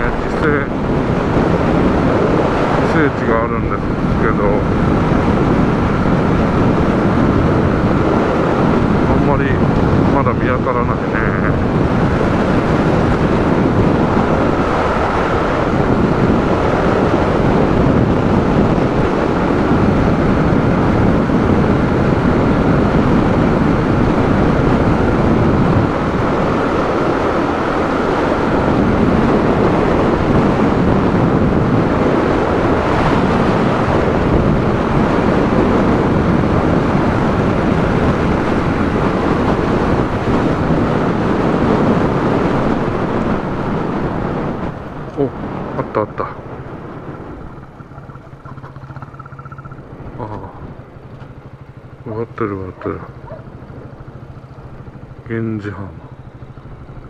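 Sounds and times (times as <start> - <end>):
wind buffeting microphone: 0.0 - 57.0
motorcycle engine: 10.9 - 57.0.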